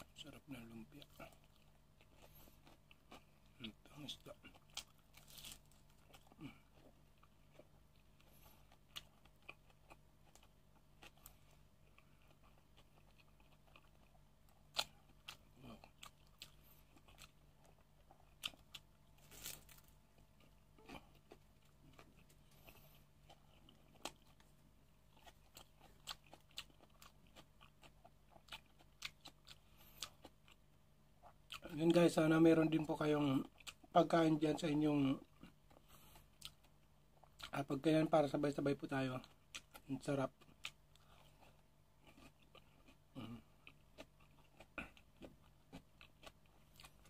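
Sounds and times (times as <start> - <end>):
chewing crisp food: 0.0 - 47.0.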